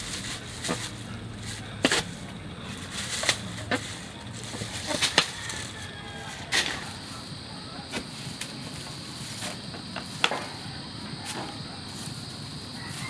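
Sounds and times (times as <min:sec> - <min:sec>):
steady high hum: 0:00.0 - 0:13.0.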